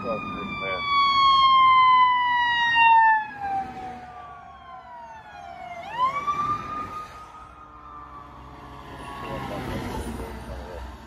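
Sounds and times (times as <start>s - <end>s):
fire truck siren wailing: 0.0s - 11.0s
rising emergency siren: 0.0s - 11.0s.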